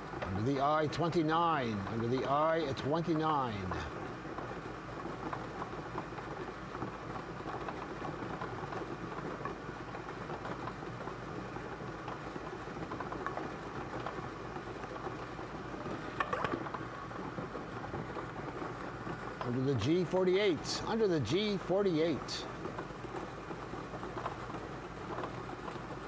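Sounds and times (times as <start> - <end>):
balls rattling and ticking: 0.0 - 26.0.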